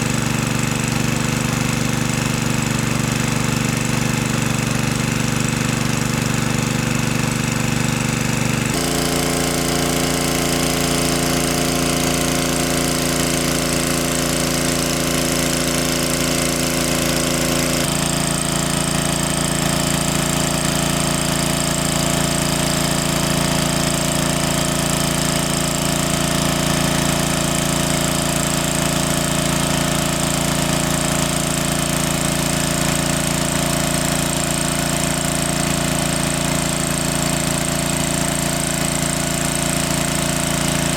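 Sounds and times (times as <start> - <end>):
small engine chugging: 0.0 - 40.9.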